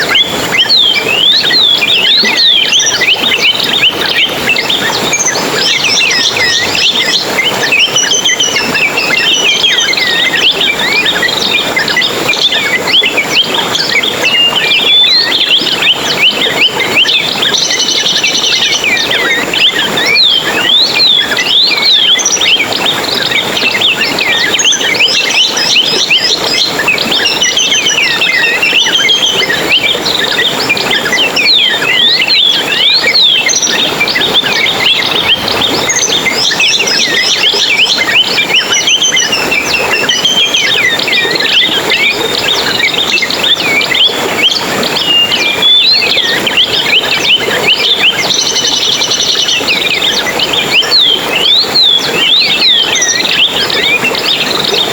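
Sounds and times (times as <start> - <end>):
songbirds twittering and chirping: 0.0 - 54.9.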